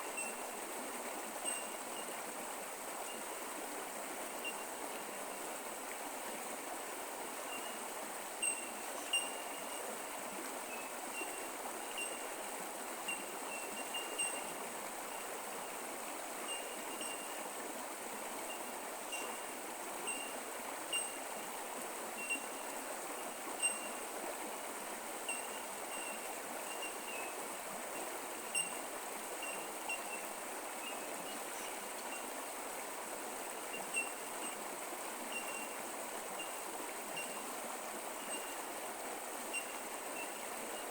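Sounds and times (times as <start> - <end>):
creek water flowing: 0.0 - 40.9.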